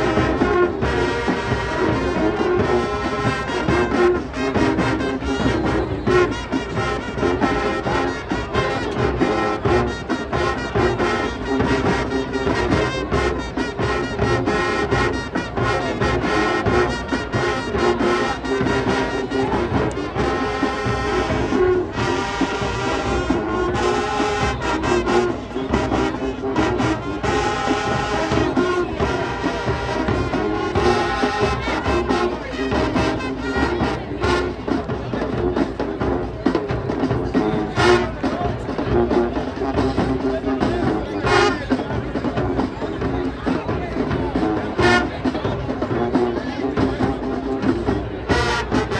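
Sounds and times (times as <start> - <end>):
marching band playing: 0.0 - 48.9.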